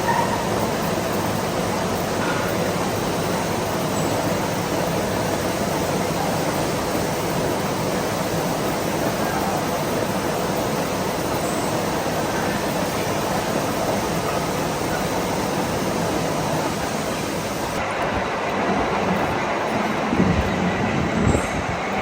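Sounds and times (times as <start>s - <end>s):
machine shop noise: 0.0s - 22.0s.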